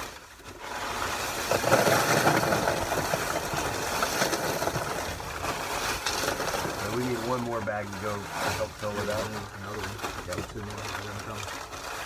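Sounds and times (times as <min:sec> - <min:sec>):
gravel pouring and rattling: 0:00.0 - 0:12.0.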